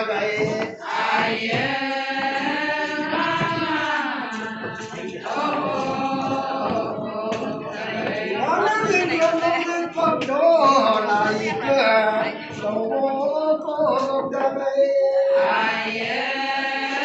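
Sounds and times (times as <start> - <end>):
women's chorus singing: 0.0 - 17.0.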